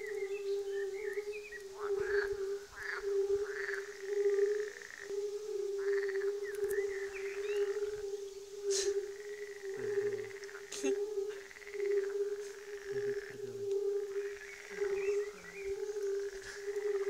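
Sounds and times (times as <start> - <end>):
frog pulsed croaks: 0.0 - 17.0
frogs humming tone: 0.0 - 17.0.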